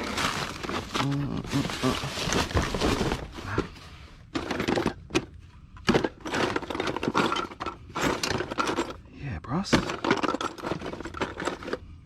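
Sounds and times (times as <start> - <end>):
objects clattering and scraping: 0.0 - 12.0.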